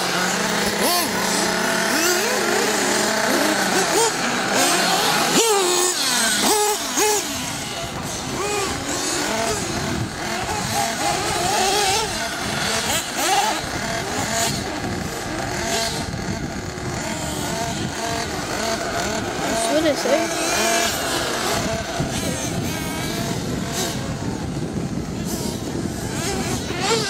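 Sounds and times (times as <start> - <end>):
rc car engines whining: 0.0 - 27.0.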